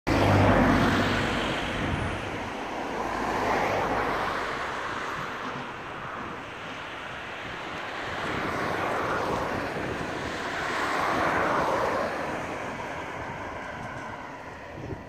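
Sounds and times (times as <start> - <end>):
wind noise: 0.1 - 15.0.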